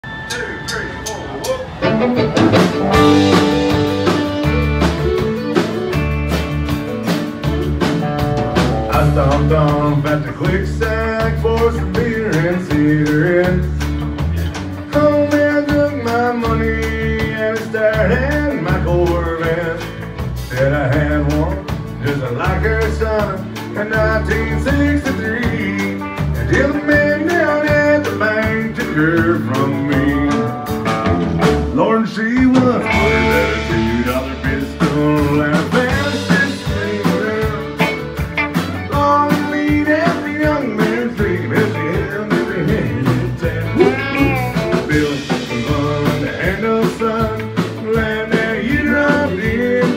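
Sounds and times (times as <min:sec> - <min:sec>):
country band playing: 0:00.0 - 0:49.9.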